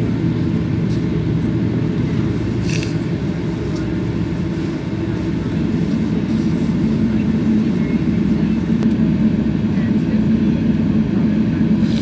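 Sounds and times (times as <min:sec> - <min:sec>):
jet airliner cabin rumble: 0:00.0 - 0:12.0.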